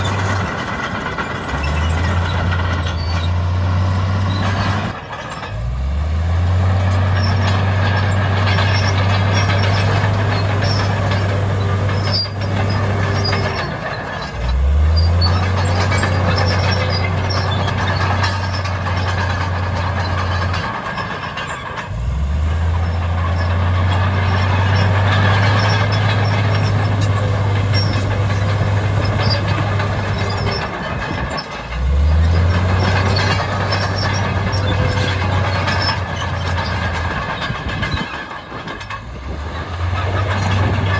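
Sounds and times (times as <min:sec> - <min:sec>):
diesel engine revving under load: 0:00.0 - 0:40.9.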